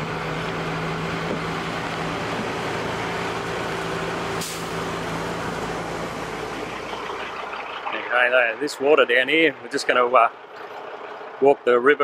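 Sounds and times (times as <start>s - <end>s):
road noise: 0.0s - 12.0s
truck diesel engine driving past: 0.0s - 12.0s.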